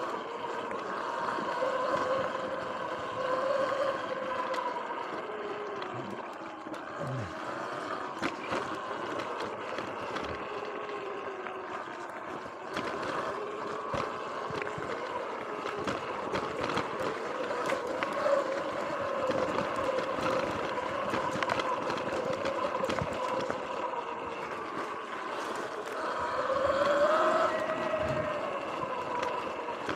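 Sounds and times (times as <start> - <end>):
electric motor whine: 0.0 - 29.9.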